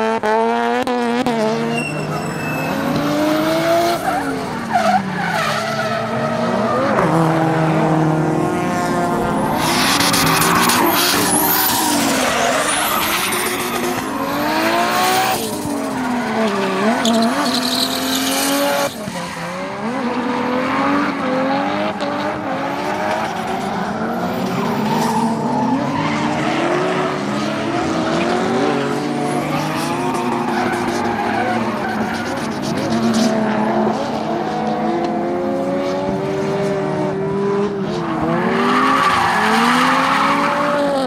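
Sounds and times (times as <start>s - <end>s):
car engines revving hard: 0.0s - 41.0s
tyres skidding and squealing: 1.1s - 36.2s, 37.7s - 41.0s.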